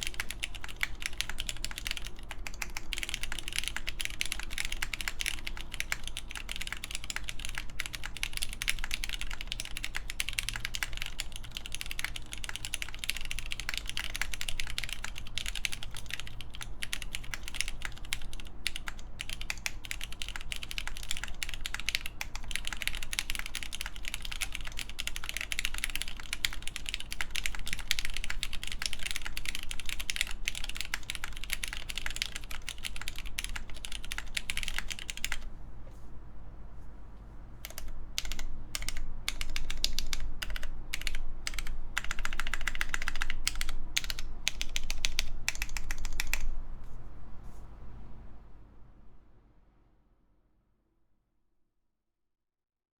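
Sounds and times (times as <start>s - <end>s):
typing on mechanical keyboard: 0.0s - 35.5s, 37.6s - 46.6s.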